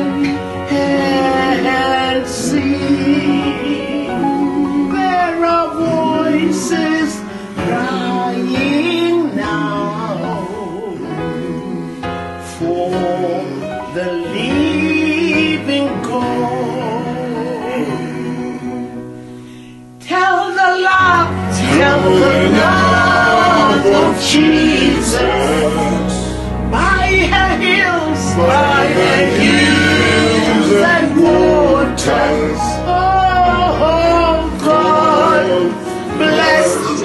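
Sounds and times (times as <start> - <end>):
gospel singing voices: 0.0 - 37.0
instrumental backing music: 0.0 - 37.0.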